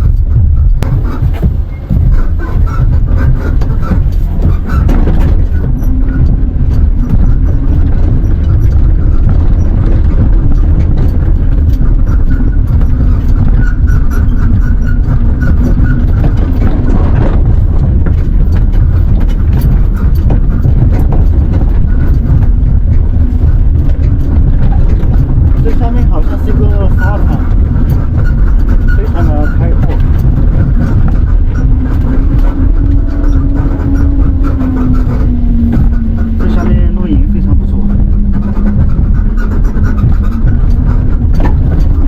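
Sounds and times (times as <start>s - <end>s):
electric tricycle rumble: 0.0s - 42.0s
wind noise on microphone: 0.0s - 42.0s.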